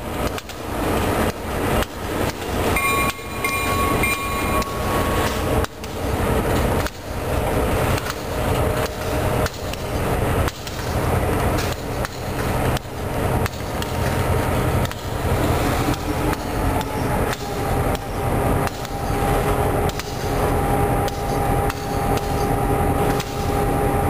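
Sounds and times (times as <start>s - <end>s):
faint steady whine: 0.0s - 24.0s
freight cars rumbling: 0.0s - 24.0s.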